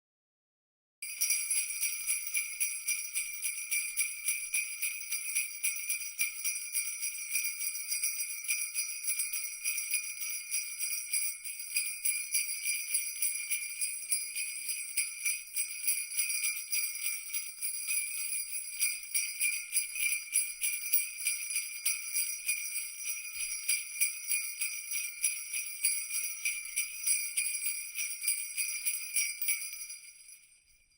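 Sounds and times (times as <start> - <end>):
jingle bells shaking: 1.0 - 30.9.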